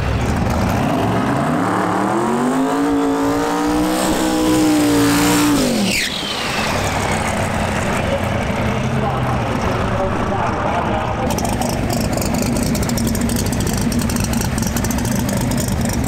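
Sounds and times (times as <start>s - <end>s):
drag car engine revving: 0.0s - 16.0s
tires spinning: 0.0s - 16.0s.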